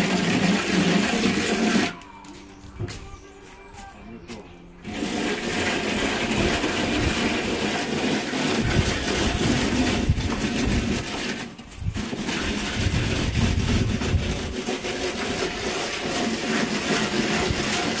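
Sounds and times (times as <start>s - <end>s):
float scraping textured wall: 0.0s - 2.0s, 4.8s - 18.0s.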